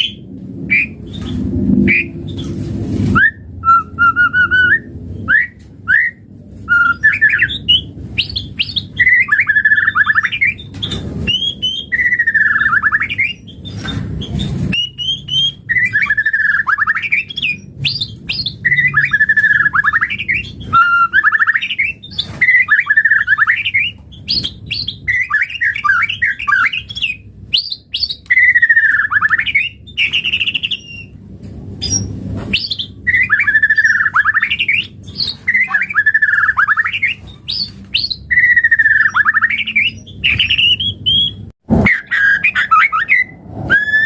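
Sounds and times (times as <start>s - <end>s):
bird singing whistled phrases: 3.2s - 31.1s, 31.8s - 44.0s.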